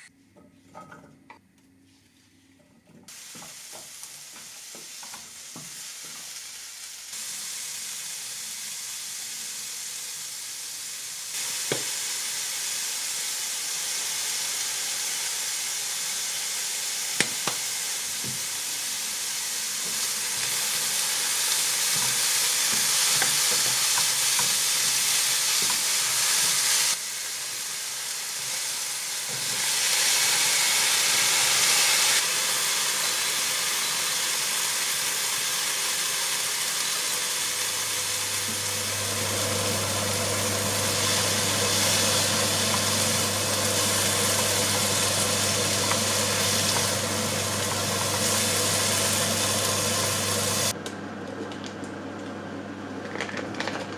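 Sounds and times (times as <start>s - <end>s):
food sizzling: 3.1s - 50.8s.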